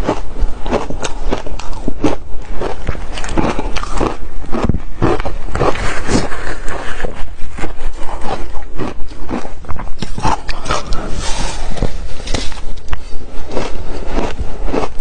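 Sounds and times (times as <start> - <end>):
ice being chewed with crunches: 0.0 - 15.0.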